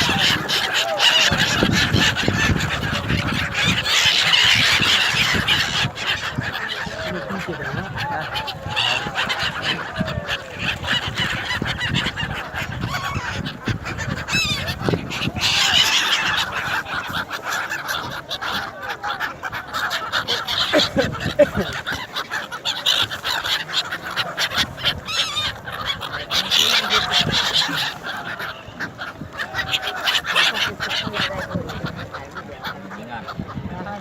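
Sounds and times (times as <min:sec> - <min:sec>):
flock of birds calling: 0:00.0 - 0:34.0.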